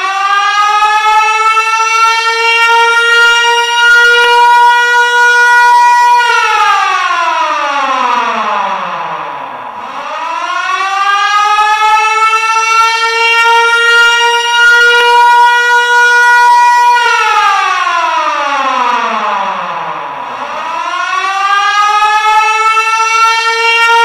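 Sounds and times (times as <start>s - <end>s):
siren wailing: 0.0s - 24.0s.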